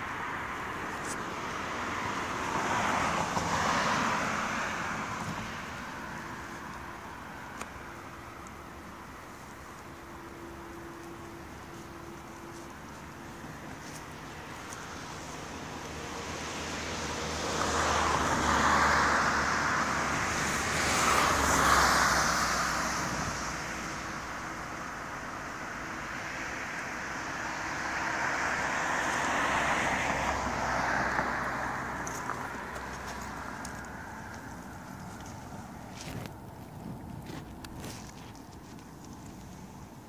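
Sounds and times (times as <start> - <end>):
cars passing on road: 0.0 - 40.0.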